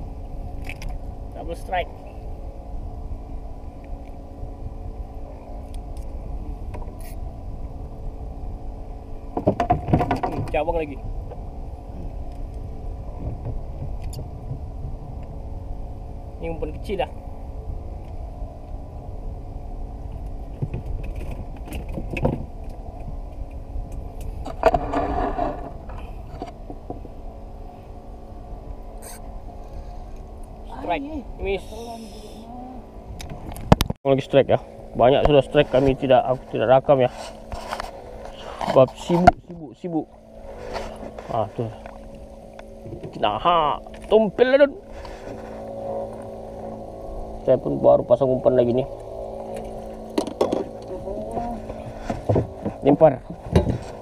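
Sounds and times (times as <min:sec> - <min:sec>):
boat engine humming: 0:00.0 - 0:54.0
wind and water rumble: 0:00.0 - 0:54.0.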